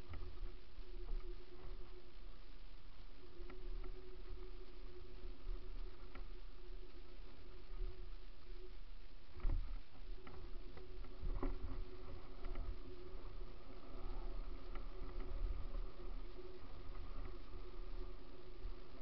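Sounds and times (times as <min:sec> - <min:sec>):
wind on microphone: 0:03.2 - 0:19.0.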